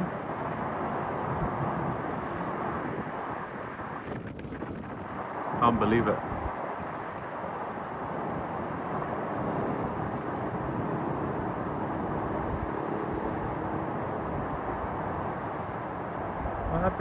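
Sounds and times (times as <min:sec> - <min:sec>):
aircraft: 0:00.0 - 0:17.0
distant engines rumbling: 0:00.0 - 0:17.0
road traffic: 0:00.0 - 0:17.0.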